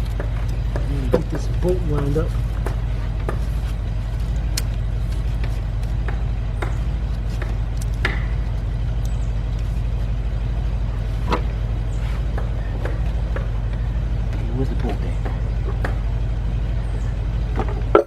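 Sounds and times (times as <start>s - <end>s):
metallic clicks of tools on engine parts: 0.0s - 18.0s
steady low rumble: 0.0s - 18.0s.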